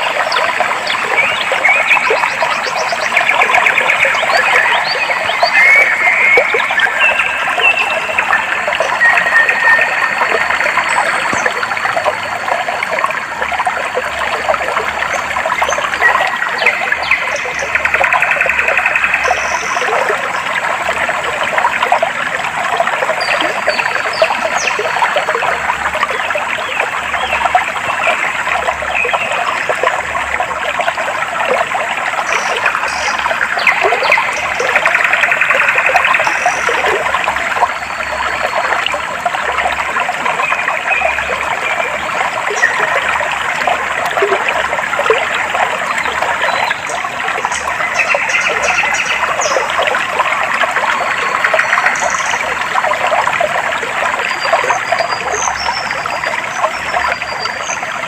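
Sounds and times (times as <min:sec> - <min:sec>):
stream water babbling over rocks: 0:00.0 - 0:58.0.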